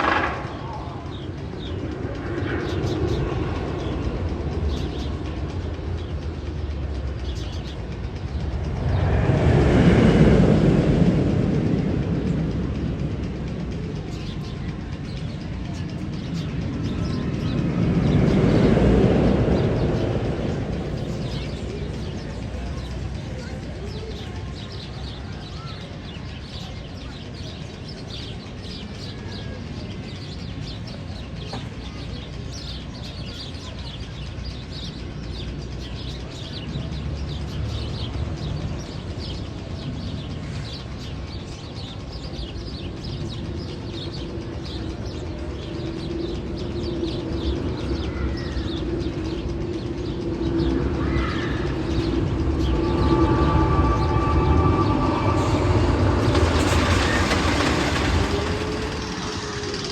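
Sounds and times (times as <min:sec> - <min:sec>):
birds chirping over speakers: 0:00.0 - 0:59.9
roller coaster train approaching: 0:00.0 - 0:59.9.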